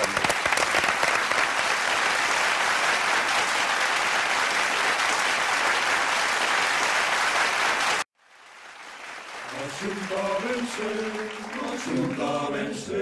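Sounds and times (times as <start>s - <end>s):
people clapping: 0.0s - 12.7s.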